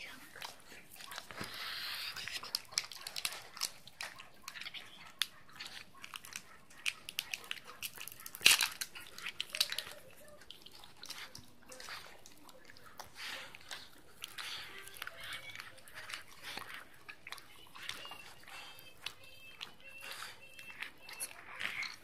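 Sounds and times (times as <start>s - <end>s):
dog licking fur: 0.0s - 22.0s.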